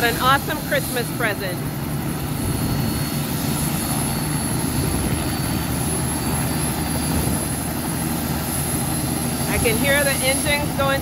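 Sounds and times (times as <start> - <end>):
helicopter rotor and engine rumble: 0.0 - 11.0
high turbine whine: 0.0 - 11.0.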